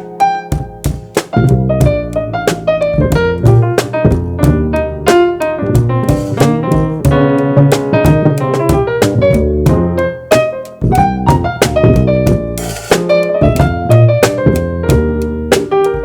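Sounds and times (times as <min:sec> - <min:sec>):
bass: 0:00.0 - 0:16.0
drums keeping a beat: 0:00.0 - 0:16.0
keyboard chords and melody: 0:00.0 - 0:16.0.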